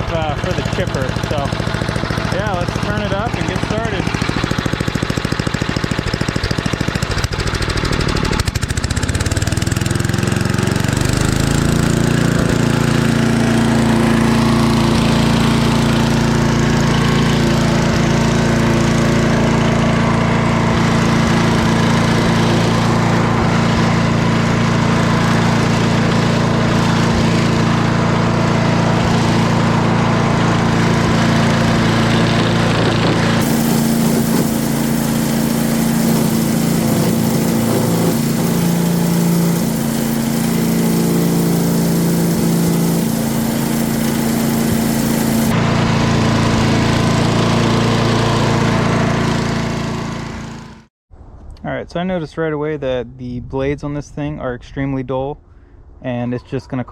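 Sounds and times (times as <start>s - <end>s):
small engine revving: 0.0s - 50.9s.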